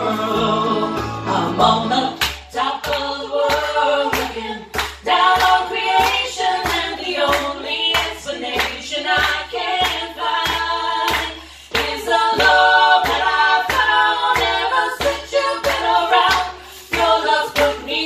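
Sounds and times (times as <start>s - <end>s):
women singing: 0.0s - 18.0s
hand-clapping: 2.2s - 18.0s.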